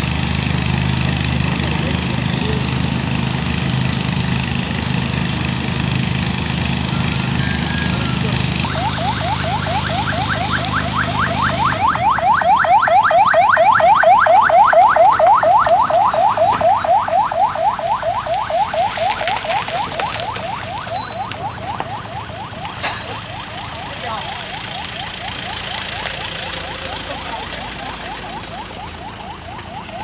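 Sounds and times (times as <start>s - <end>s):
ambulance siren yelping: 5.0s - 30.0s.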